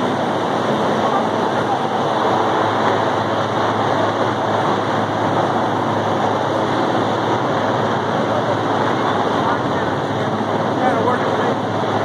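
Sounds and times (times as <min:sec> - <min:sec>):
helicopter hovering overhead: 0:00.0 - 0:12.0.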